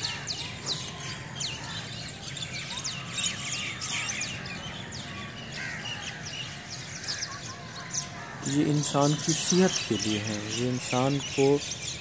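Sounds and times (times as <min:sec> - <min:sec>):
chorus of birds chirping: 0:00.0 - 0:12.0.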